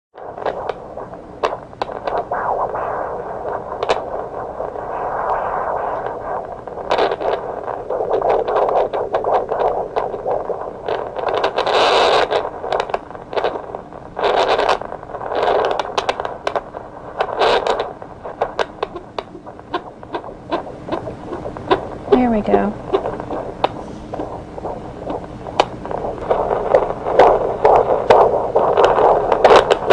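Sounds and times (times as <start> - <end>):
doppler monitor hiss: 0.2 - 29.9
probe scraping crackles: 0.2 - 29.9.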